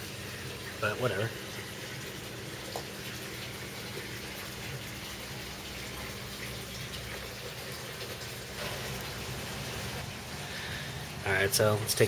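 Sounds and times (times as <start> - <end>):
water running in tank: 0.0 - 12.0.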